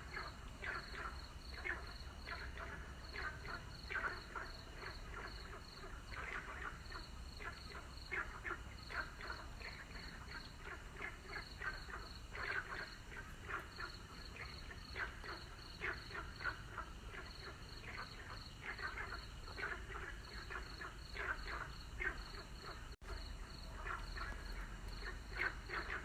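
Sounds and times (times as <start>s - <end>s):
frogs croaking: 0.0s - 26.0s.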